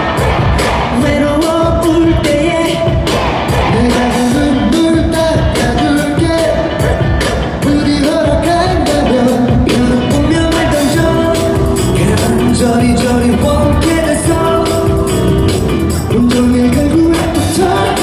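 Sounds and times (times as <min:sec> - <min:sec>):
pop dance song over sound system: 0:00.0 - 0:18.0.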